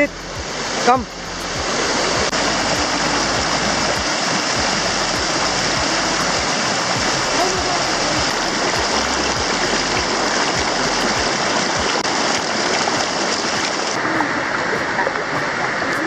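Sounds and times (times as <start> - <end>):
water rushing down rock steps: 0.1 - 16.0.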